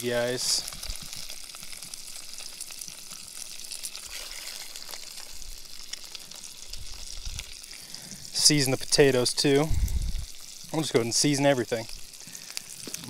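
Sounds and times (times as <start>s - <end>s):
fish sizzling in butter: 0.0s - 13.0s.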